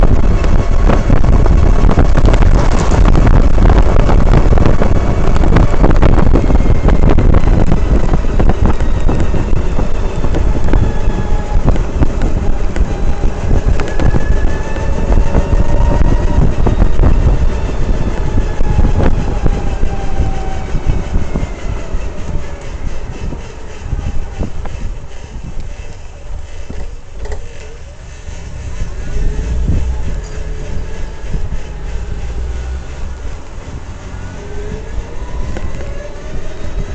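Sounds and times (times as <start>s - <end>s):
heavy road rumble: 0.0s - 36.9s.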